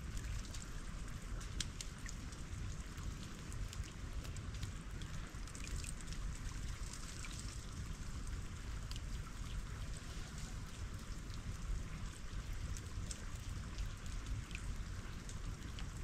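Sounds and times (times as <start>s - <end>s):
low rush of water: 0.0s - 16.0s
water dripping: 0.0s - 16.0s.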